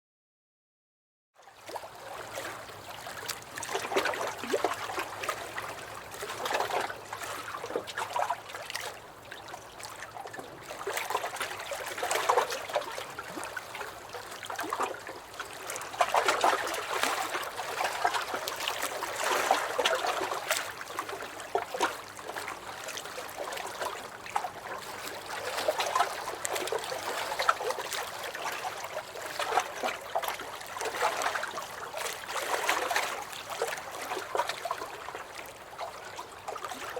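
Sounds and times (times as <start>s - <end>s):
small waves splashing: 1.5s - 36.9s.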